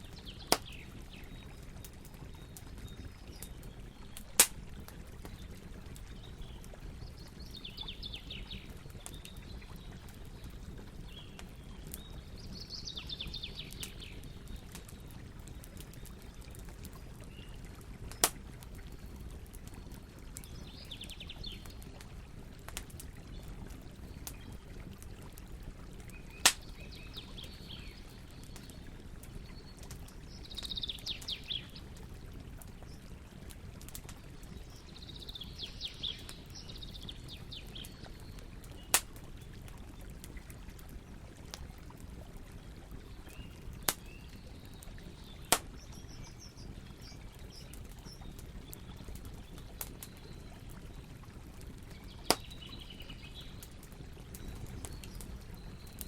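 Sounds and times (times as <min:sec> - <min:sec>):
campfire burning: 0:00.0 - 0:56.0
campfire pops: 0:00.1 - 0:12.3, 0:13.4 - 0:34.7, 0:37.1 - 0:42.3, 0:43.0 - 0:50.3, 0:52.0 - 0:52.9.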